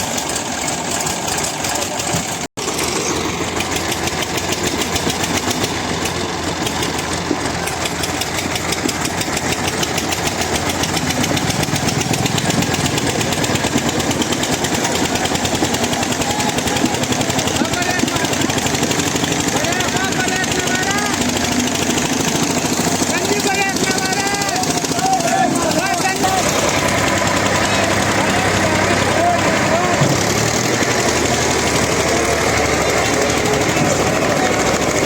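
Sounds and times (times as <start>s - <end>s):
tractor diesel engines labouring: 0.0s - 35.0s.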